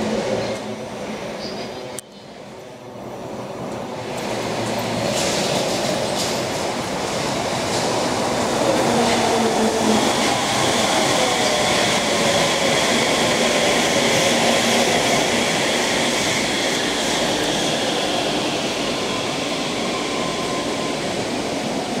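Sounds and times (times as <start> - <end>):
train rumbling and whining: 0.0 - 22.0.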